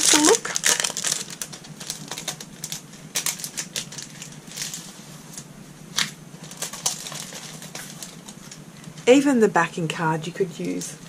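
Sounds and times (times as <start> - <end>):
cellophane packaging crinkling: 0.0 - 9.2.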